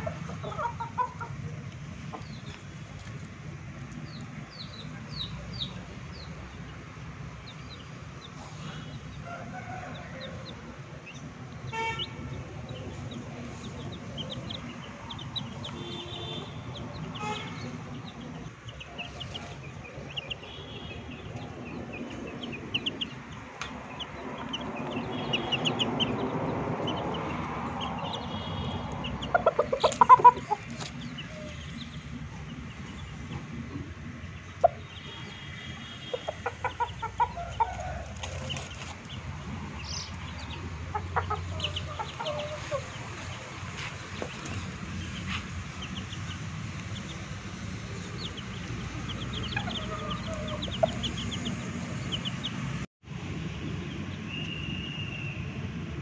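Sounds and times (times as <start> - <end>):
chickens clucking: 0.0 - 52.7
chicks cheeping: 0.0 - 52.8.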